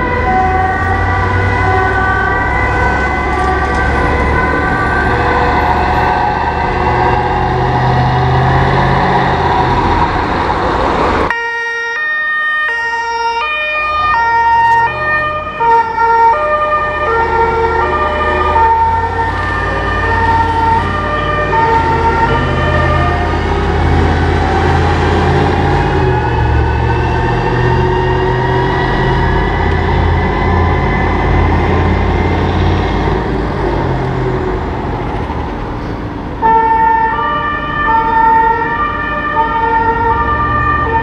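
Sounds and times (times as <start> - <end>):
two-tone fire engine sirens: 0.0 - 41.0.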